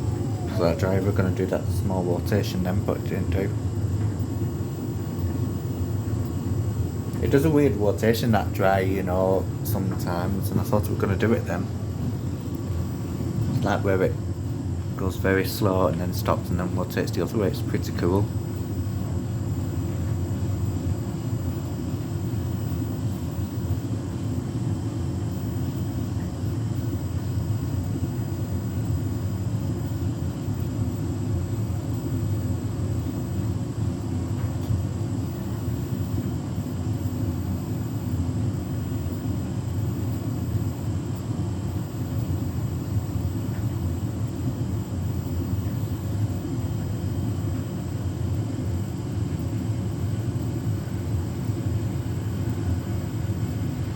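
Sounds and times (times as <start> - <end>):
washing machine spinning: 0.0 - 53.9.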